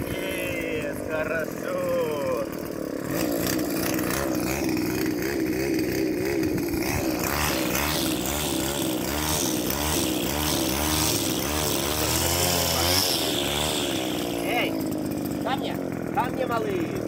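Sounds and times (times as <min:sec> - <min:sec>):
string trimmer engine idling: 0:00.0 - 0:17.0.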